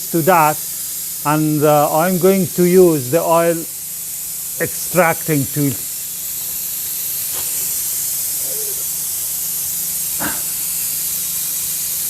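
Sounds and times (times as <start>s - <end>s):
oil extractor tool hissing: 0.0s - 12.0s.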